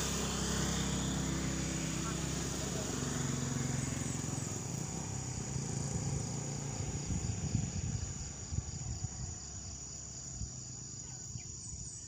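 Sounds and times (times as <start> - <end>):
insect drone: 0.0 - 12.0.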